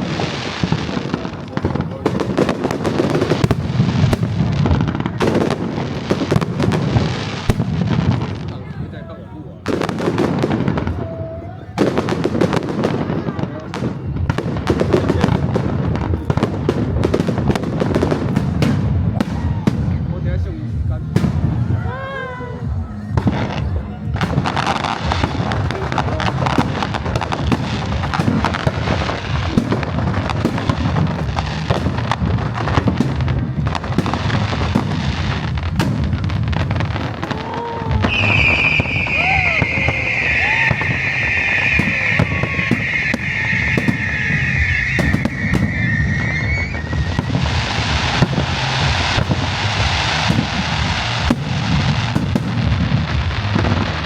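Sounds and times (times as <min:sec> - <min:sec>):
fireworks bursts and booms: 0:00.0 - 0:54.0
fireworks crackling: 0:00.0 - 0:54.0.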